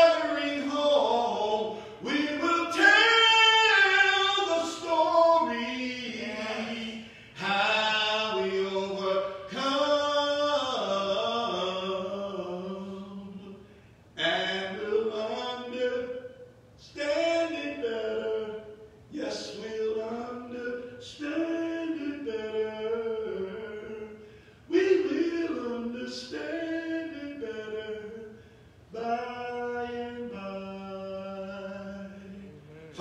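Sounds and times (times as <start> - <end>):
man singing unaccompanied: 0.0 - 33.0.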